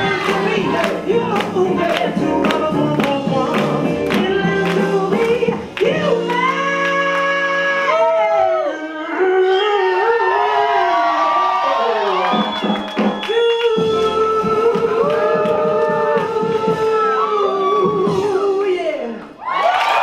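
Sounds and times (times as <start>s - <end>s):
swing music with singing: 0.0s - 19.4s.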